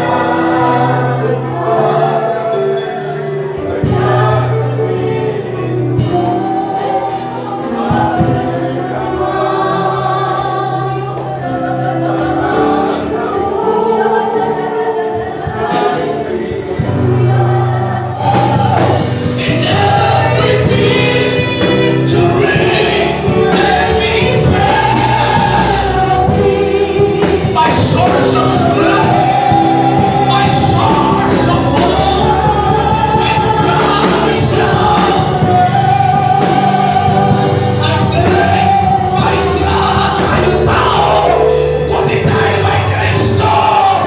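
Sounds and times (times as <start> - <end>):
congregation singing worship song: 0.0 - 44.0
instrumental accompaniment: 0.0 - 44.0.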